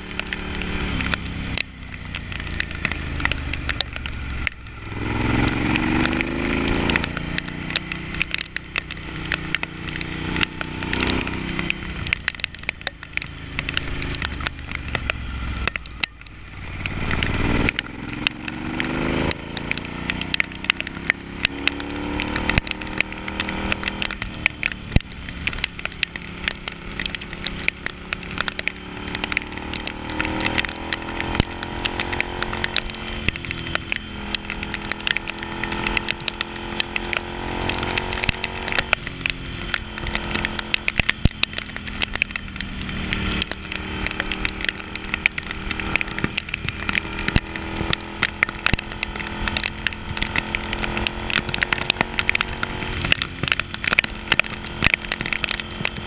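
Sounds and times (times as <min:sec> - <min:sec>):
motorcycle engine revving: 0:00.0 - 0:56.0
raindrops ticking on camera: 0:00.0 - 0:56.0.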